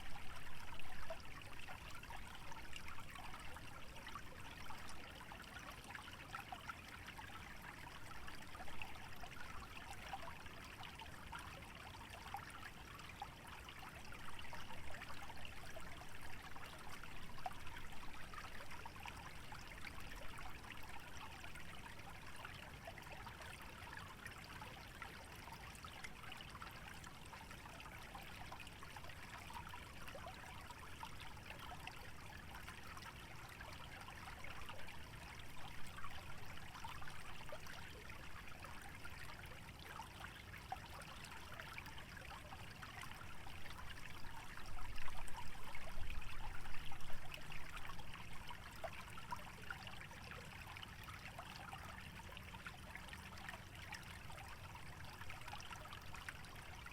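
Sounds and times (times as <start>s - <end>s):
stream trickling and babbling: 0.0s - 56.9s.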